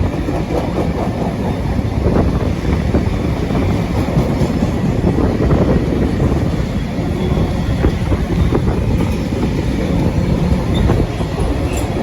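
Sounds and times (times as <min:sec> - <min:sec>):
freight train wagons rolling: 0:00.0 - 0:12.0.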